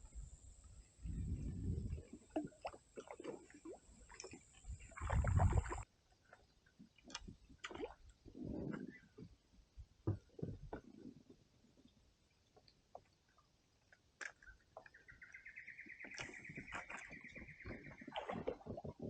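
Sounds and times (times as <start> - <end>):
water sloshing against kayak: 1.0 - 19.0.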